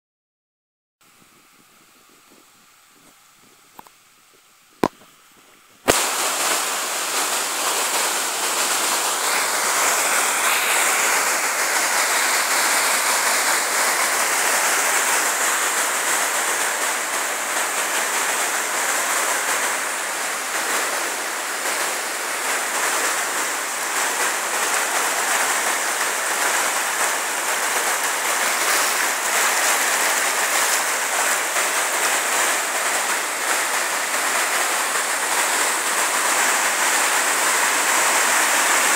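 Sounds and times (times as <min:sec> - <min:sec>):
waterfall rushing: 0:05.9 - 0:38.9.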